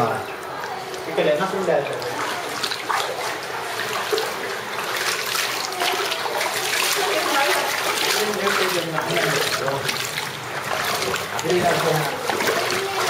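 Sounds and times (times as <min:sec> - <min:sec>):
water running across tiled floor: 0:00.0 - 0:13.0.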